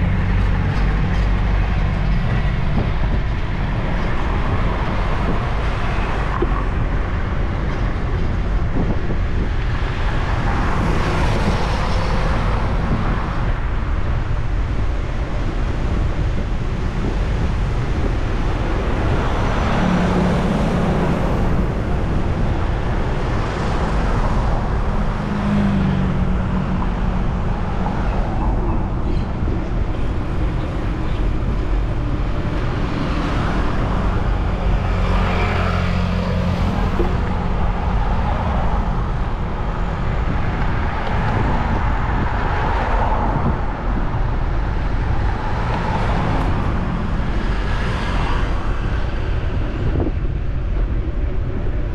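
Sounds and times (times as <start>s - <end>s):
car engines passing: 0.0s - 51.9s
wind on microphone: 0.0s - 51.9s.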